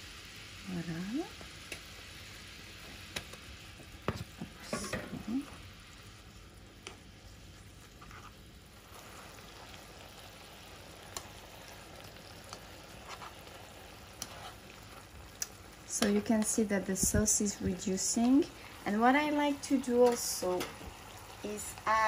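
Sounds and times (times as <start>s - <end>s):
meat sizzling in sauce: 0.0s - 22.0s.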